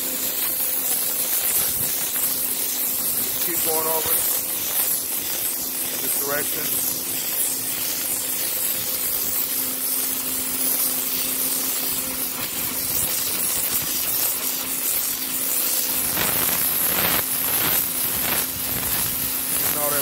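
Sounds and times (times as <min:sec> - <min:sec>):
machine hum: 0:00.0 - 0:20.0
pressure washer spraying concrete: 0:00.0 - 0:20.0.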